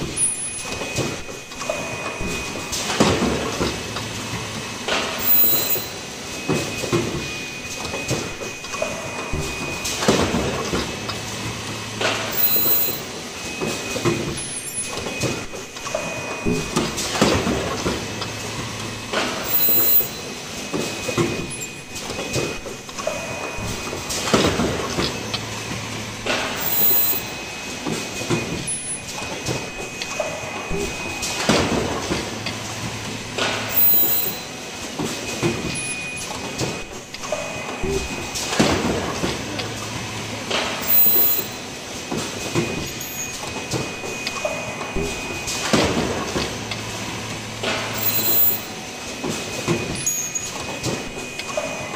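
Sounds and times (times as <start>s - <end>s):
machine hum with high whine: 0.0s - 51.9s.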